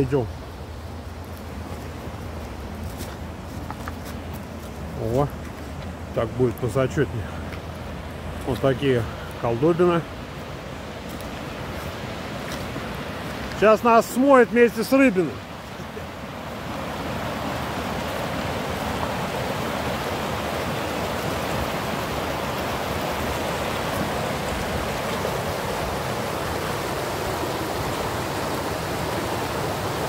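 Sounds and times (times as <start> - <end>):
mountain river rushing: 0.0 - 30.0.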